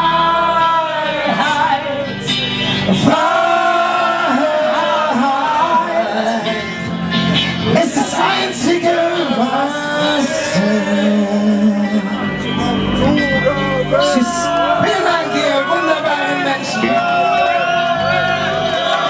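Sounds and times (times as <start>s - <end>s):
group of singers singing: 0.0s - 19.0s
live band: 0.0s - 19.0s.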